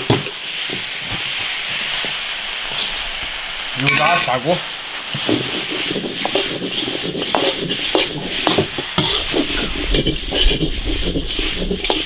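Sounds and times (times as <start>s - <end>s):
food sizzling in fat: 0.0s - 12.0s
spatula scraping wok: 0.0s - 12.0s.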